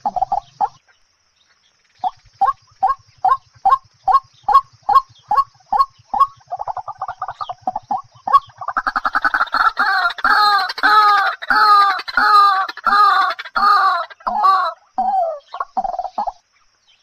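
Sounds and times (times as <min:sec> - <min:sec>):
fowl clucking: 0:02.0 - 0:16.4.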